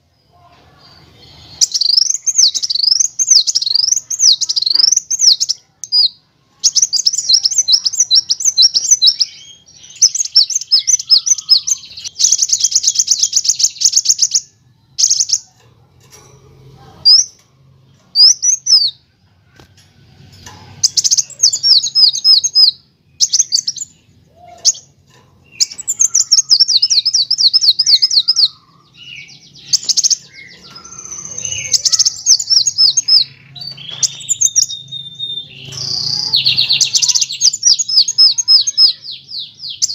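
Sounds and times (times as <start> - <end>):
sunbird chirps and trills: 0.0 - 19.1, 20.4 - 39.9.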